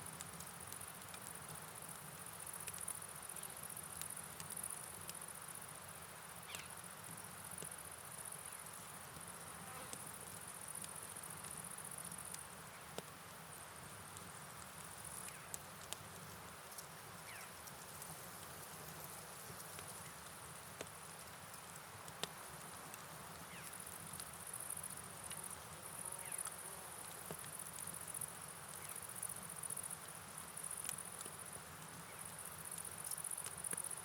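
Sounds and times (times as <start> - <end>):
rain: 0.0 - 34.0.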